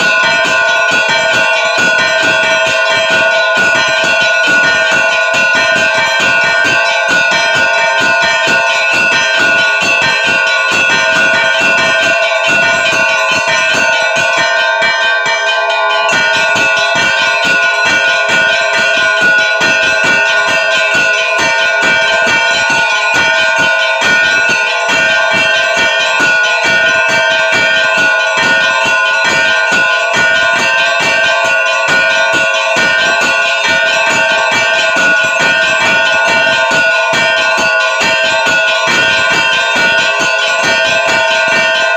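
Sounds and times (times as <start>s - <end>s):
church bells pealing: 0.0s - 41.9s.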